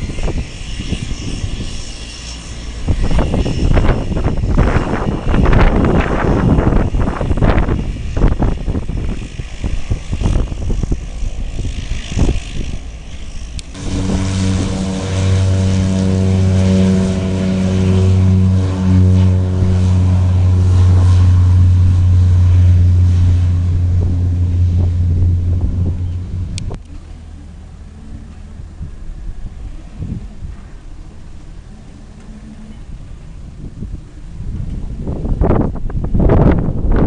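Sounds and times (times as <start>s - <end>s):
wind buffeting microphone: 0.0s - 26.8s, 28.2s - 37.0s
low engine drone: 0.0s - 37.0s.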